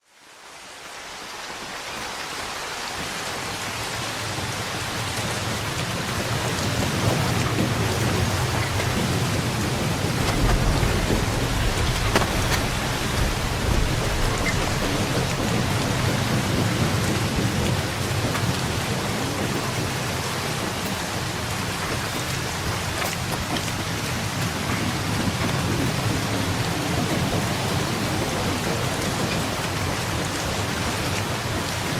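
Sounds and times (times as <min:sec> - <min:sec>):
heavy rain falling: 0:00.0 - 0:31.9
low rumble of thunder: 0:03.9 - 0:31.9.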